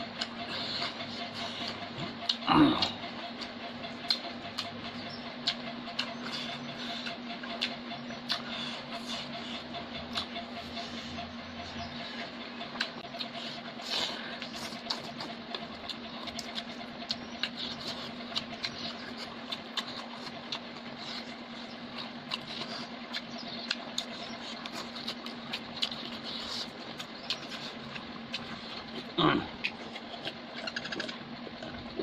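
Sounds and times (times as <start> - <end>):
chewing and smacking: 0.0 - 32.0.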